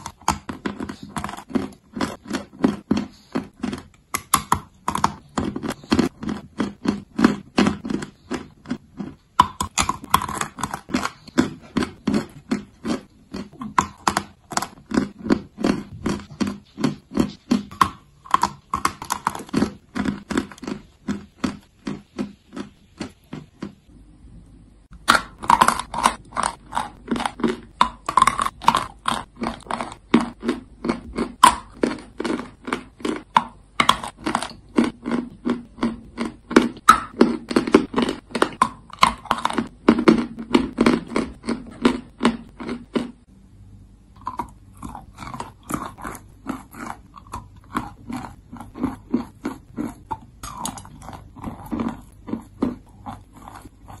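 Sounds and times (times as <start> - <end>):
person crunching hard lumps: 0.0 - 23.8, 25.0 - 43.2, 44.2 - 54.0.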